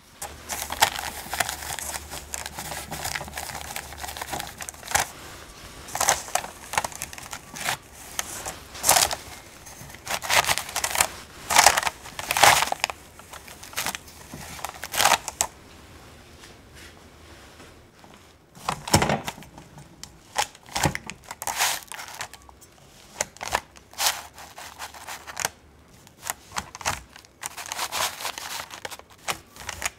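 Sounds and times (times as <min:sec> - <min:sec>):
tea towel rustling and crinkling: 0:00.0 - 0:19.4, 0:20.2 - 0:29.9.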